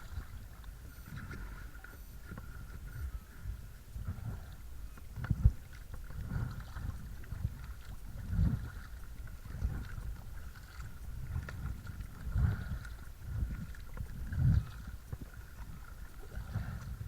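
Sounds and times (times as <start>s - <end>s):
kayak buffeting and thumps: 0.0s - 17.0s.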